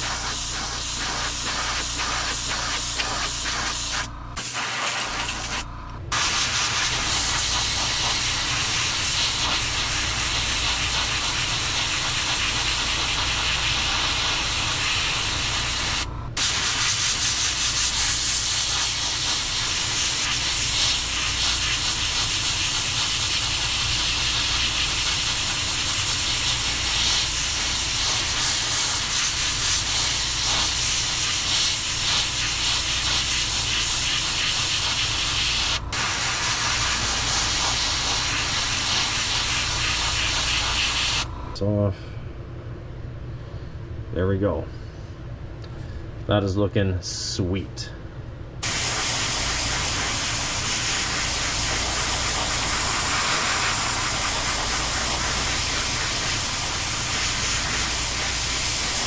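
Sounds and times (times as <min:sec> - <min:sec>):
airbrush hissing: 0:00.0 - 0:41.3, 0:48.6 - 0:59.0.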